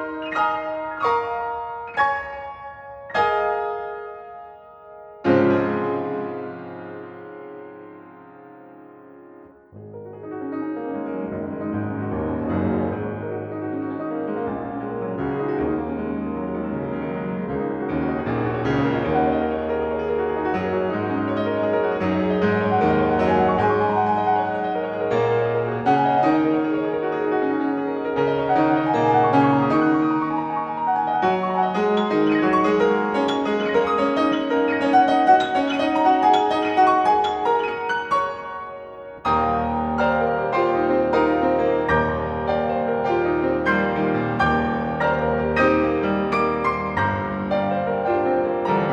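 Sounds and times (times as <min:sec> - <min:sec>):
solo piano playing: 0:00.0 - 0:48.9.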